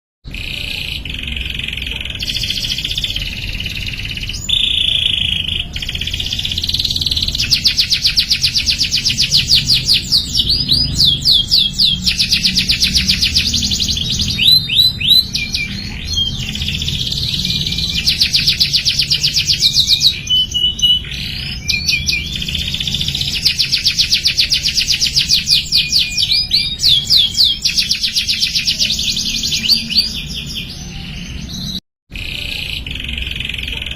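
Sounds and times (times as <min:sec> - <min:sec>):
canary singing trills: 0:00.3 - 0:33.9.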